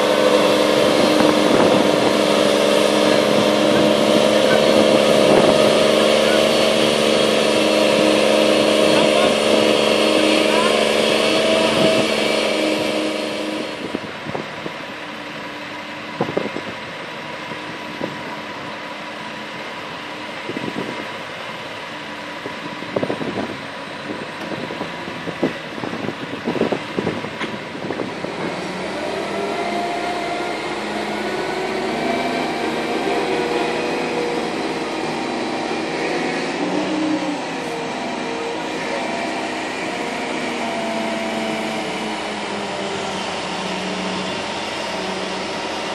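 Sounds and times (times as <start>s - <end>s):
crane engine running: 0.0s - 45.9s.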